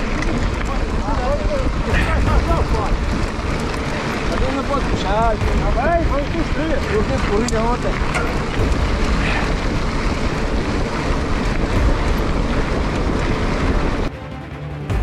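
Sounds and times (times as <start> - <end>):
mountain bike on dirt track: 0.0 - 14.1
wind buffeting microphone: 0.0 - 14.1.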